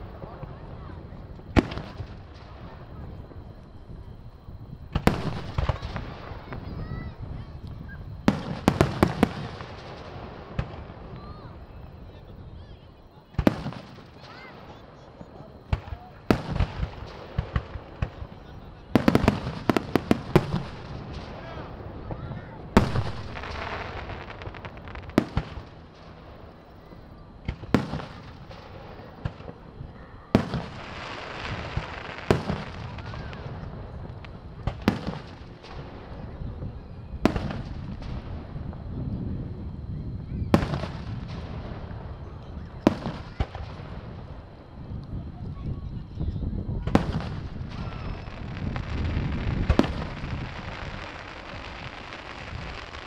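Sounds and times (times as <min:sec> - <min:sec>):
fireworks bangs: 0:00.0 - 0:53.0
smaller firework pops: 0:01.2 - 0:03.7, 0:04.9 - 0:12.2, 0:13.3 - 0:29.7, 0:30.3 - 0:38.9, 0:39.7 - 0:53.0.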